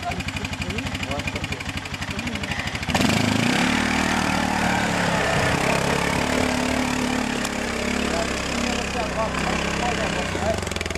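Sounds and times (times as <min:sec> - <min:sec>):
quad bike engine idling: 0:00.0 - 0:10.9.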